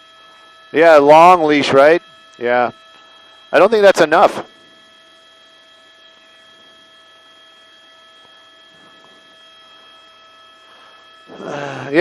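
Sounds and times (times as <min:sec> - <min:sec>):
electrical hum with whining tones: 0:00.0 - 0:12.0.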